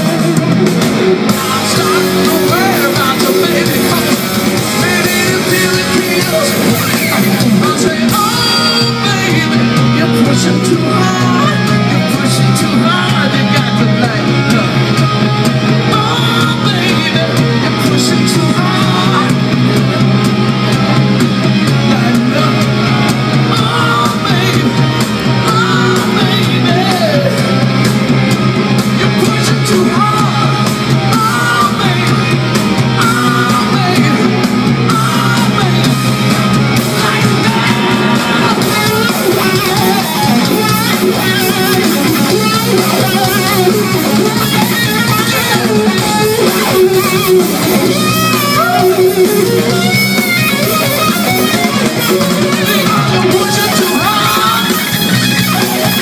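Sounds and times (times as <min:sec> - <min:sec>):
person singing: 0:00.0 - 0:15.0, 0:15.7 - 0:19.7, 0:21.6 - 0:27.7, 0:28.9 - 0:56.0
live rock band playing: 0:00.0 - 0:56.0.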